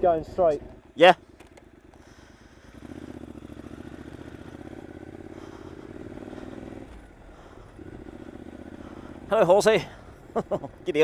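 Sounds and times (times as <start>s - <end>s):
motorcycle engine pulling: 0.2s - 11.0s.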